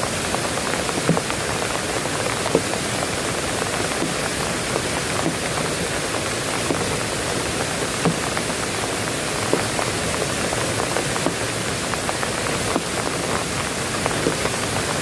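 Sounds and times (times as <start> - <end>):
heavy rain falling: 0.0 - 15.0
raindrops ticking on a surface: 0.0 - 15.0.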